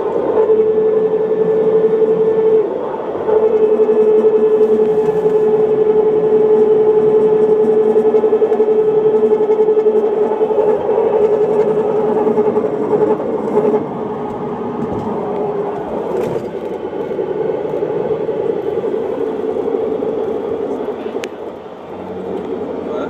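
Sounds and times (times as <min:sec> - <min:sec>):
differential whining: 0:00.0 - 0:23.0
rumble of moving vehicle: 0:00.0 - 0:23.0.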